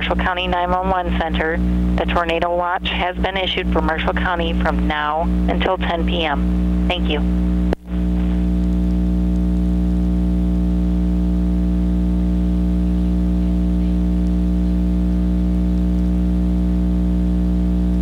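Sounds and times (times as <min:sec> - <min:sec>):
steady electrical buzz: 0:00.0 - 0:18.0.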